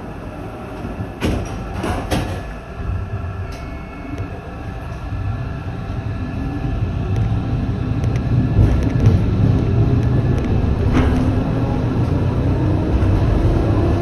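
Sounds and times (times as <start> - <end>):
tram low hum: 0.0 - 14.0
tram running noise: 0.0 - 14.0.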